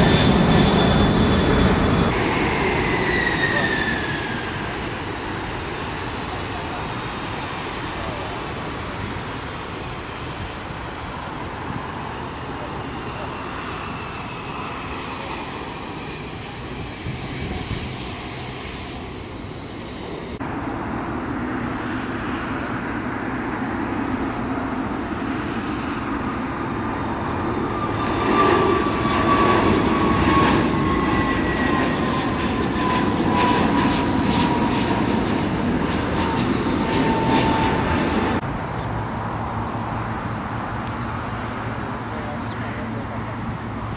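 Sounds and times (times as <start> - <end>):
jet engine roar: 0.0 - 43.9.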